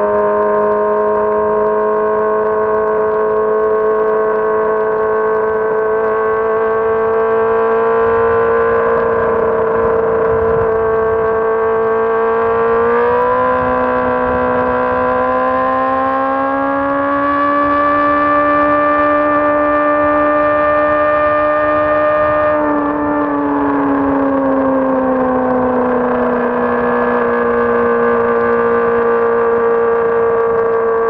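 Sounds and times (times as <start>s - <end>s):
motorcycle engine revving high: 0.0s - 31.0s.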